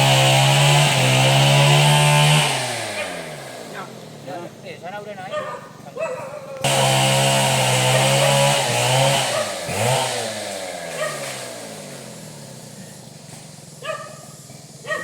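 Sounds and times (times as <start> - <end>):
chainsaw engine revving: 0.0 - 6.0, 6.6 - 15.0.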